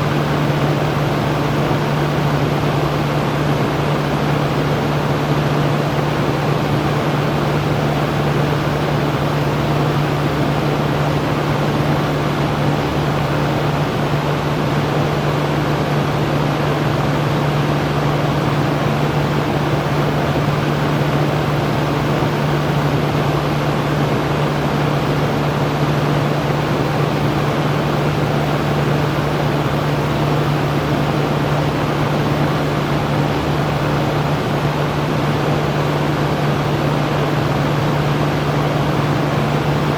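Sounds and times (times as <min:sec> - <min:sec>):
electric fan whooshing: 0:00.0 - 0:39.9.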